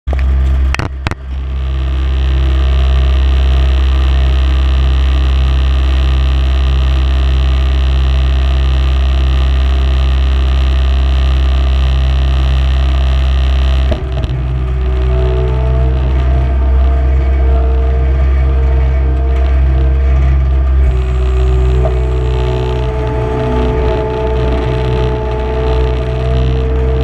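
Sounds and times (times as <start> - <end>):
loader engine droning with whine: 0.0 - 27.0.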